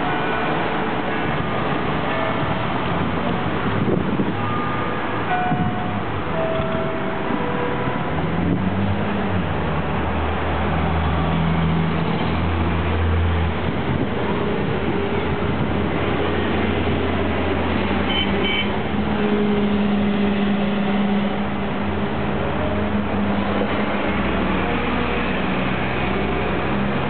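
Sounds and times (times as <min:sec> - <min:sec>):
cars and buses driving past: 0:00.0 - 0:27.0.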